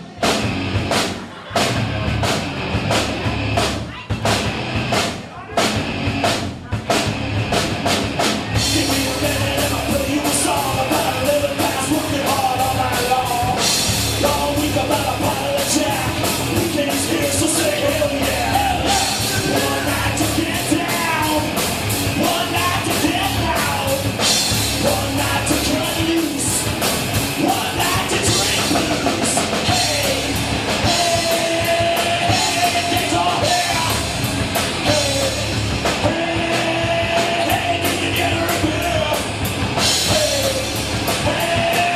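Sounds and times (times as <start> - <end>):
rock music with drums and singing: 0.0 - 41.9.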